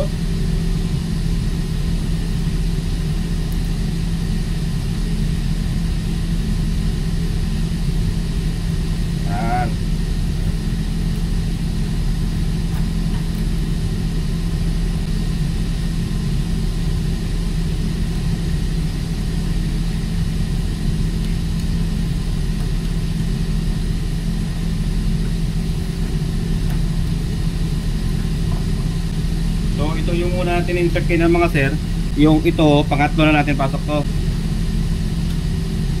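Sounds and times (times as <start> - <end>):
ship machinery drone: 0.0 - 36.0.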